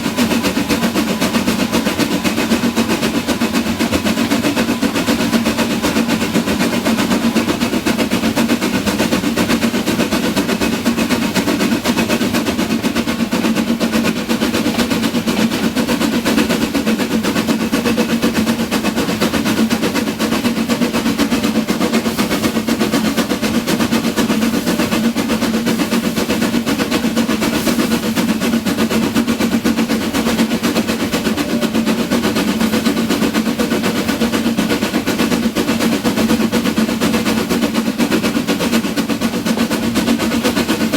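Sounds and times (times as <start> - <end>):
train clattering on tracks: 0.0 - 40.9.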